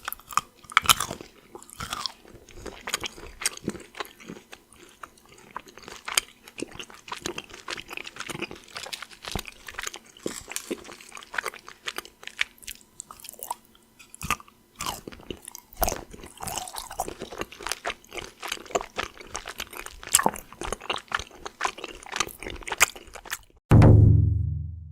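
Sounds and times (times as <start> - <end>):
chocolate crunching: 0.0 - 23.6.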